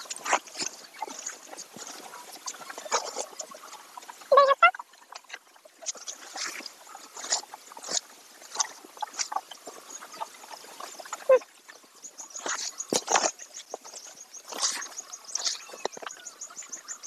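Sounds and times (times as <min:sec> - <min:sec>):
cows slurping and munching: 0:00.0 - 0:17.0.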